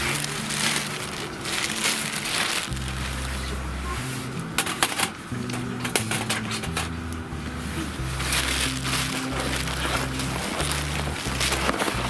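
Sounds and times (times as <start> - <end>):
music with stepping bass line: 0.0 - 12.0.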